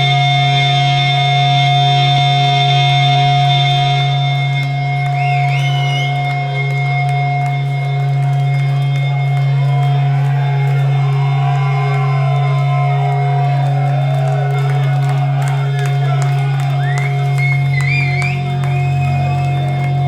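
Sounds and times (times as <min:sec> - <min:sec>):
low amplifier drone: 0:00.0 - 0:20.0
squealing feedback pitch glides: 0:00.0 - 0:20.0.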